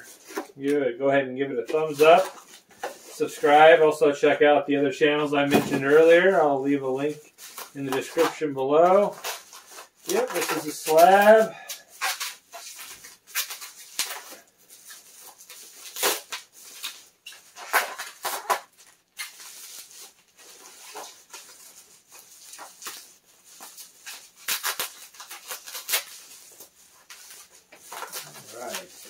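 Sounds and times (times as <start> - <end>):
bubble wrap crinkling: 1.6 - 3.8, 5.4 - 29.0.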